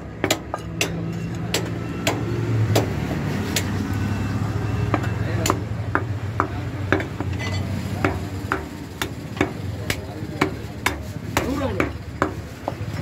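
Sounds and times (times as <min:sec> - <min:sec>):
cleaver chopping meat: 0:00.0 - 0:03.8, 0:04.8 - 0:13.0.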